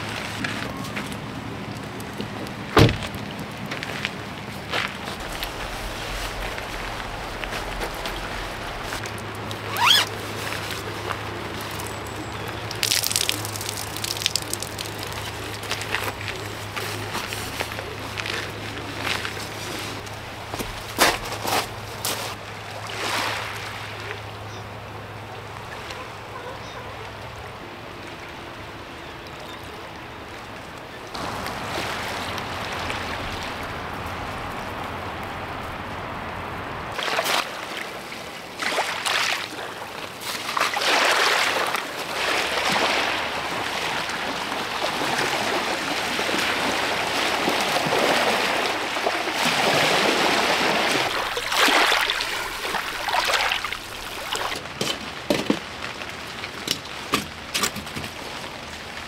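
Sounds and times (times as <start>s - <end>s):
waves on pebble beach: 2.5s - 26.3s, 31.1s - 57.5s.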